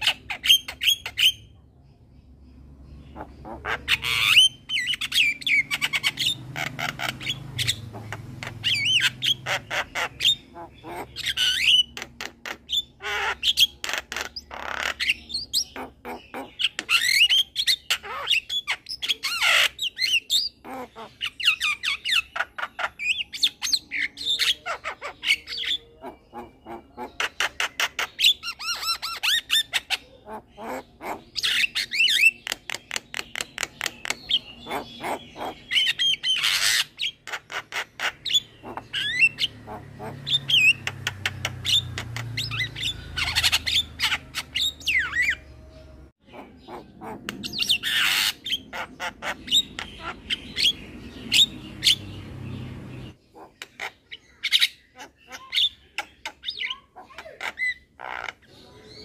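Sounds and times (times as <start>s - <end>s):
myna bird singing squawks and whistles: 0.0s - 1.6s, 3.0s - 45.6s, 46.2s - 59.0s.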